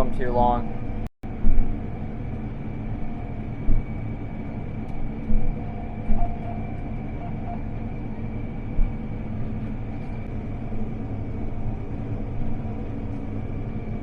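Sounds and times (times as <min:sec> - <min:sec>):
combine harvester rumble: 0:00.0 - 0:14.0
constant high whine: 0:00.0 - 0:14.0.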